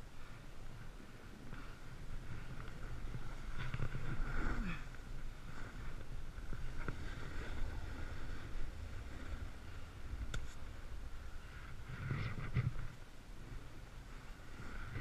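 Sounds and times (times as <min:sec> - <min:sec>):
snowboard scraping over snow: 0:00.0 - 0:15.0.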